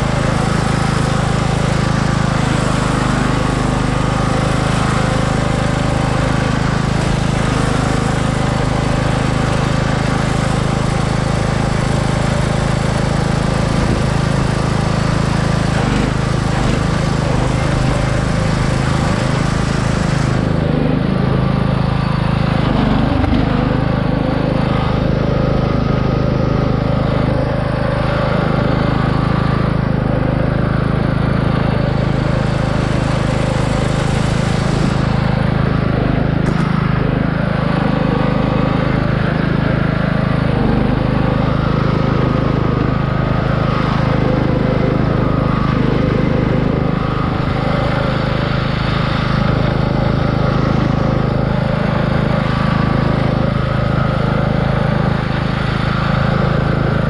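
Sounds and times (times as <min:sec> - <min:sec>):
riding lawn mower engine running: 0:00.0 - 0:57.0.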